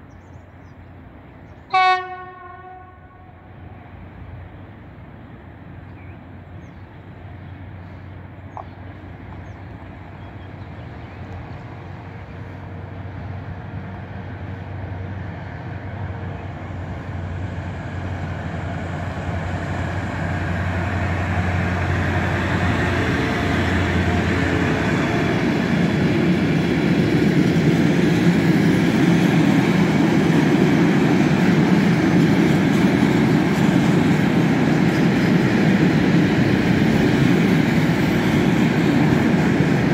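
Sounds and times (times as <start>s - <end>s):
electric locomotive humming: 0.0s - 39.9s.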